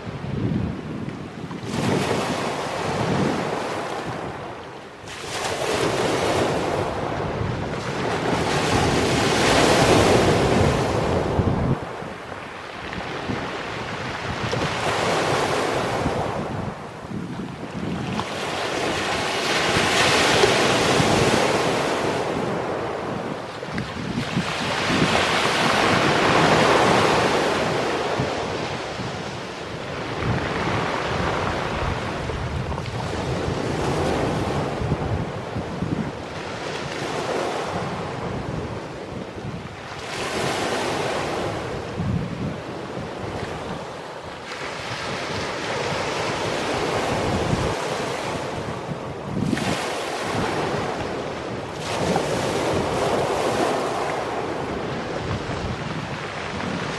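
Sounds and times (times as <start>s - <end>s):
waves on pebble beach: 1.6s - 56.9s.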